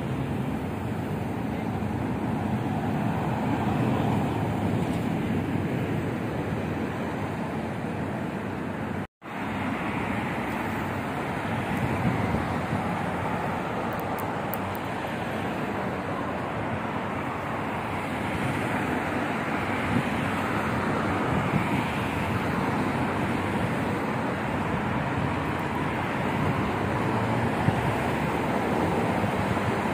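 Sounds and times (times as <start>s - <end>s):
city traffic rushing: 0.0s - 29.9s.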